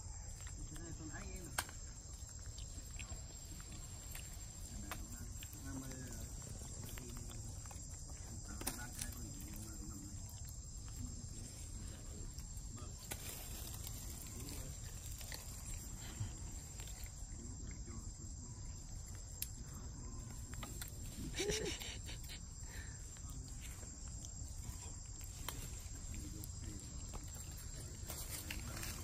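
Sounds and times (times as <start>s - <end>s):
faint monkey calls: 0.0s - 29.0s
high insect drone: 0.0s - 29.0s.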